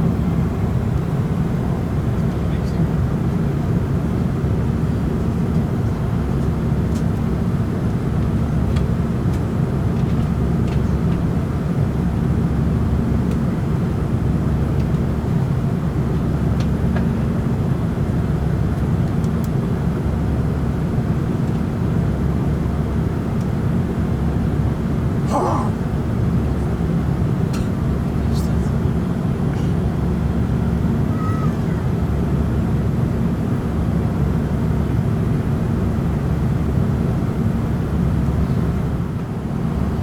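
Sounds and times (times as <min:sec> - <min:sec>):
airplane cabin roar: 0:00.0 - 0:40.0.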